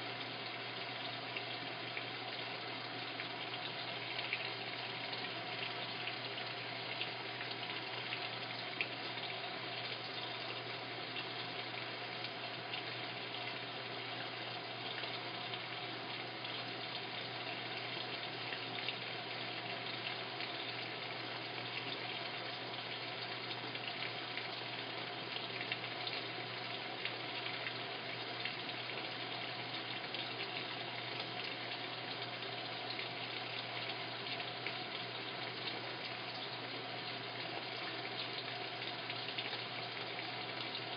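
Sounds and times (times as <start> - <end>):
water flowing into drum: 0.0 - 40.9.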